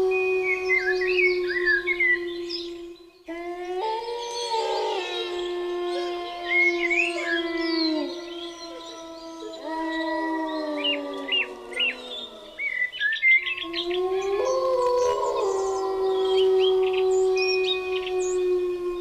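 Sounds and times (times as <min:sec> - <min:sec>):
wolves howling: 0:00.0 - 0:19.0.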